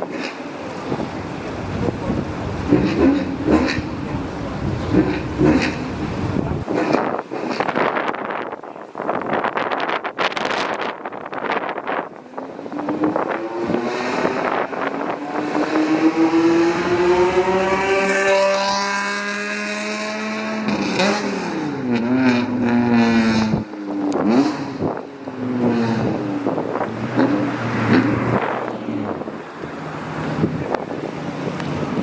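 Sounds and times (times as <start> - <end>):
car engine accelerating and revving: 0.0 - 8.0, 11.4 - 32.0.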